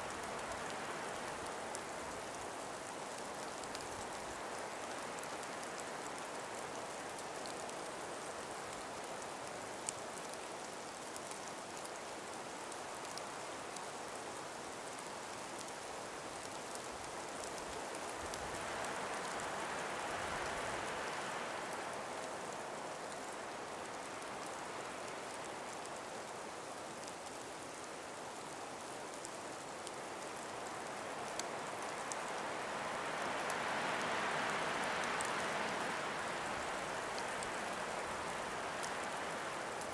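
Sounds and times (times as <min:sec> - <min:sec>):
breeze through snowy trees: 0:00.0 - 0:39.9
faint ticks: 0:00.1 - 0:21.1, 0:22.2 - 0:39.9.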